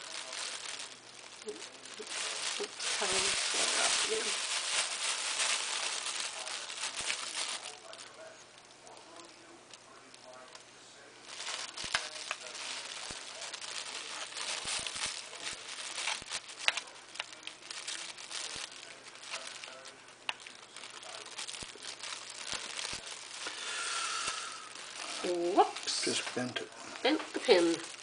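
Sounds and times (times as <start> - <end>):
plastic bag crinkling: 0.0 - 10.6, 11.2 - 28.0.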